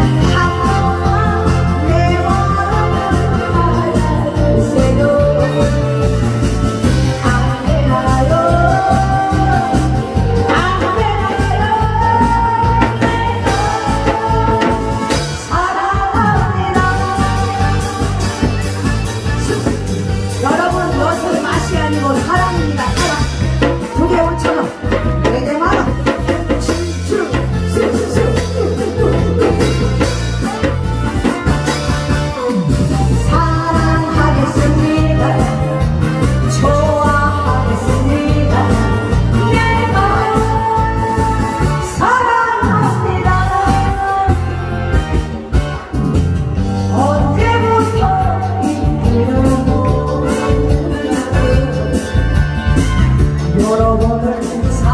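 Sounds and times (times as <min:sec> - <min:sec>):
person singing: 0:00.0 - 0:31.5, 0:32.4 - 0:44.8, 0:46.9 - 0:54.9
amplified backing track with bass: 0:00.0 - 0:54.9.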